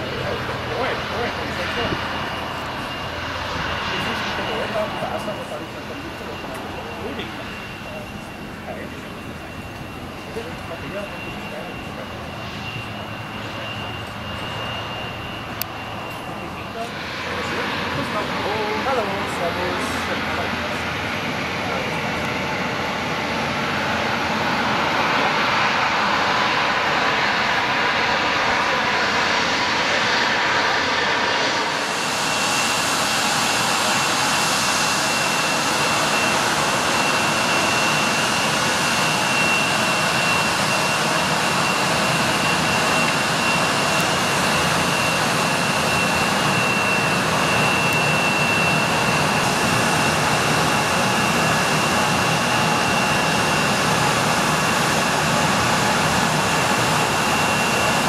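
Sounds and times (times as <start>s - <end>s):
high engine whine: 0.0s - 58.0s
jet engine rumble: 0.0s - 58.0s.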